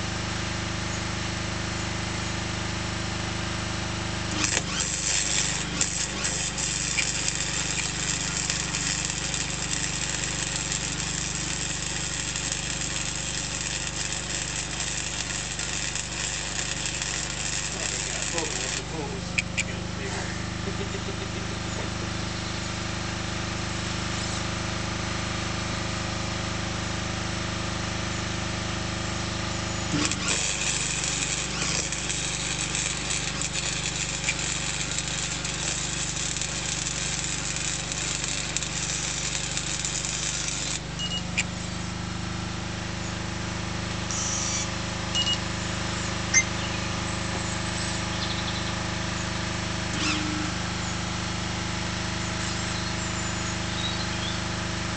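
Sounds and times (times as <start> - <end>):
engine hum: 0.0 - 54.9
welding hissing crackle: 4.2 - 23.0, 29.8 - 54.9.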